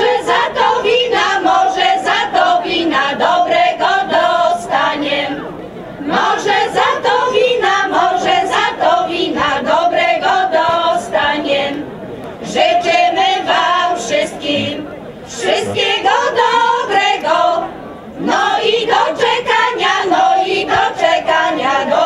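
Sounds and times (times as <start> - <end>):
women's choir singing folk song: 0.0 - 22.0.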